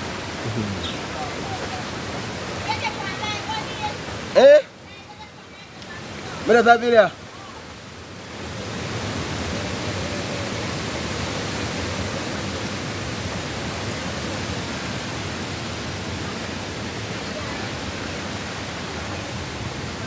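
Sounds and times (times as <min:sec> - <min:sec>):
hurricane wind and rain: 0:00.0 - 0:20.0.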